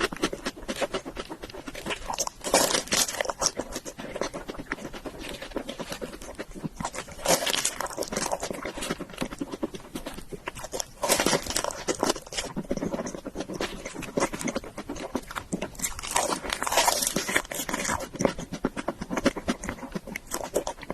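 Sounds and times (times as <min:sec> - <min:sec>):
close-miked chewing: 0:00.0 - 0:20.9.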